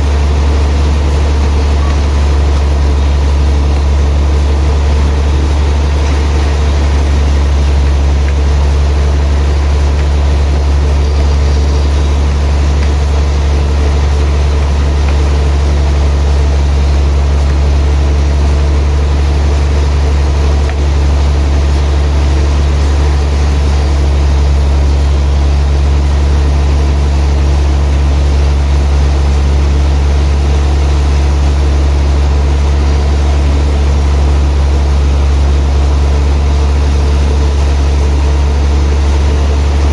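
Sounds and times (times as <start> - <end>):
faint higher hum tones: 0.0 - 39.9
low machine drone: 0.0 - 39.9.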